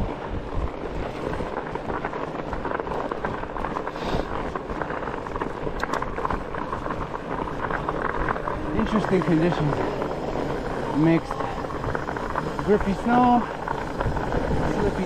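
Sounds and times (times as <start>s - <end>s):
bike tyres rumbling on snow: 0.0s - 15.0s
wind buffeting microphone: 0.0s - 15.0s
small clicks and crunches: 1.0s - 15.0s.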